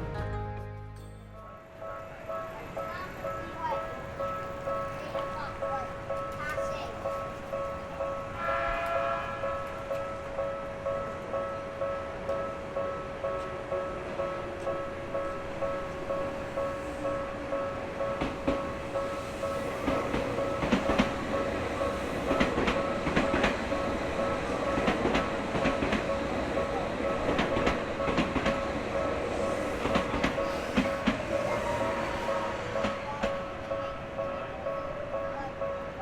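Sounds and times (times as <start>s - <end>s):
train wheels clacking on rails: 2.2s - 36.0s.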